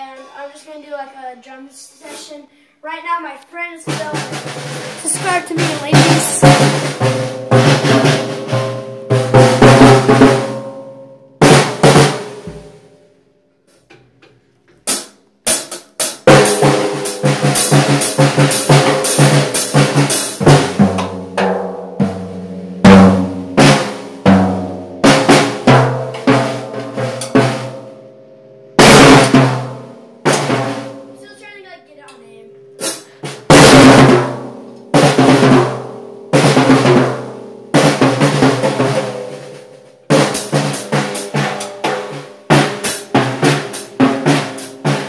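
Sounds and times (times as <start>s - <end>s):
drum kit playing: 2.0s - 2.4s, 3.0s - 13.0s, 14.8s - 28.0s, 28.7s - 45.0s.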